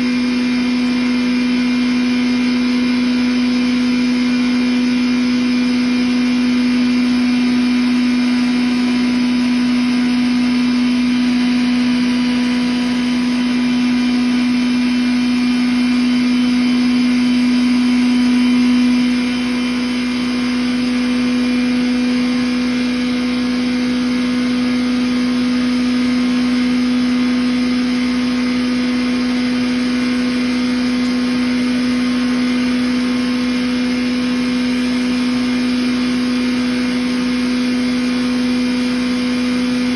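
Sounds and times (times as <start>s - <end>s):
grinder machine humming with whine: 0.0s - 39.9s.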